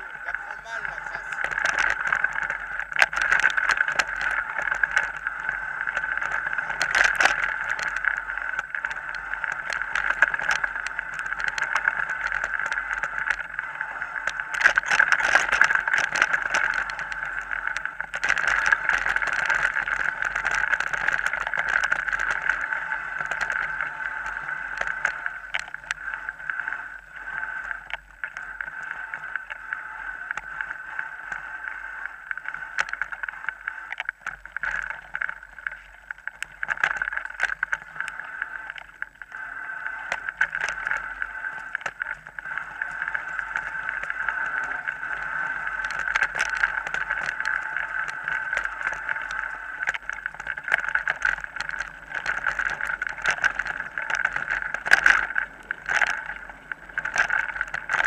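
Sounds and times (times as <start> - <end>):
bike knocking and rattling over bumps: 0.0 - 26.0, 33.9 - 38.1, 40.1 - 58.0
bike tyres and wind rushing: 0.0 - 58.0.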